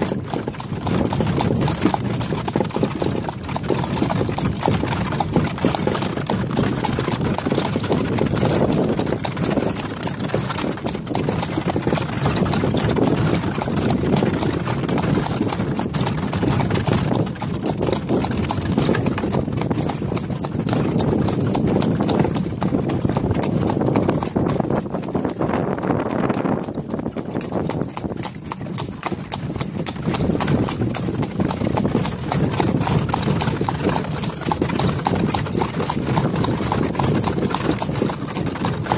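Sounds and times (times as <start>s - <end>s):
horse hooves clip-clopping on pavement: 0.0s - 38.9s.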